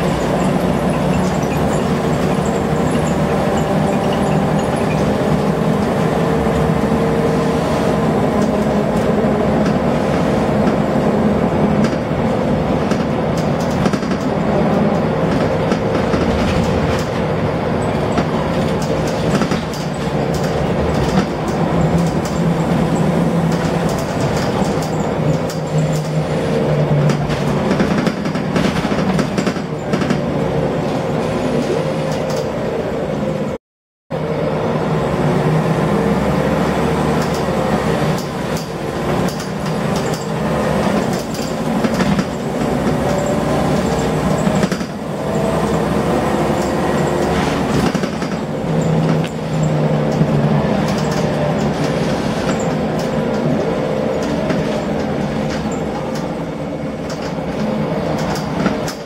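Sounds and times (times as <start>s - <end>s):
bus engine running under load: 0.0s - 59.0s.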